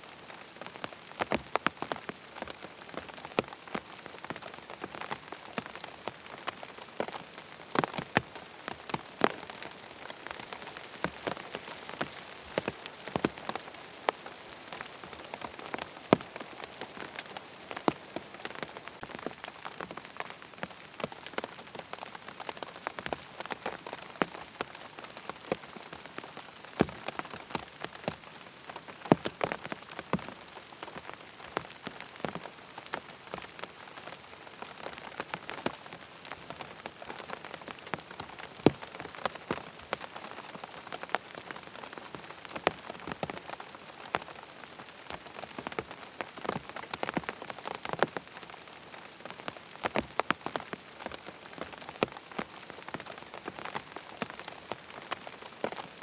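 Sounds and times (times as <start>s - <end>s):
rain with dripping ticks: 0.0s - 56.0s.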